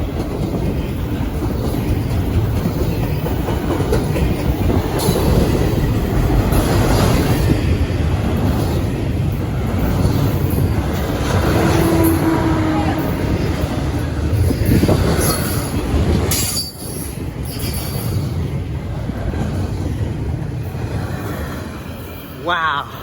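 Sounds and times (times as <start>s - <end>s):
wheels clacking over rail joints: 0.0s - 22.4s
freight train rumble: 0.0s - 23.0s.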